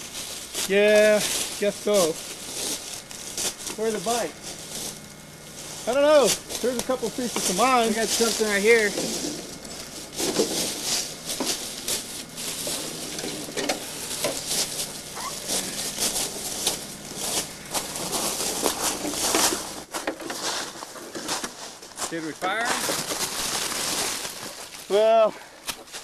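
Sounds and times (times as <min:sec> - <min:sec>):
footsteps on dry leaves and gravel: 0:00.0 - 0:26.0.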